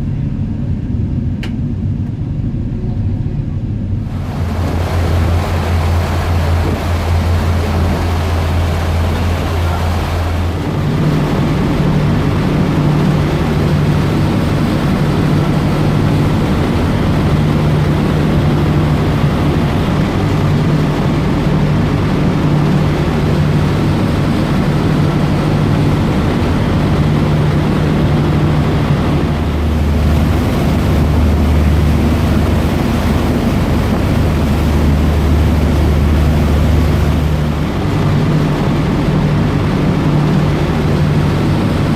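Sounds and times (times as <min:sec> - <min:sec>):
constant rushing noise: 0:00.0 - 0:41.9
deeper hum: 0:00.0 - 0:41.9
ferry engines droning: 0:00.0 - 0:41.9.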